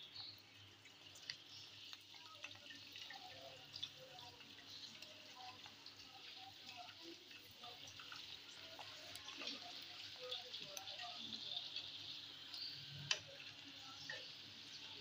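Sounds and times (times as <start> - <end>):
oil sizzling with crackles: 0.0 - 15.0.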